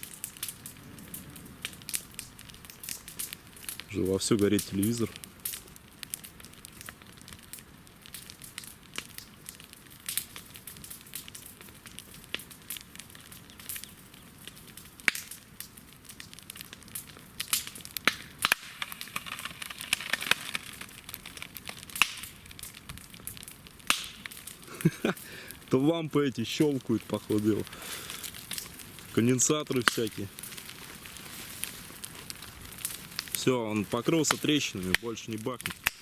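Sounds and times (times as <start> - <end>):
fire crackling: 0.0 - 36.0
sharp pops and clicks: 0.0 - 36.0.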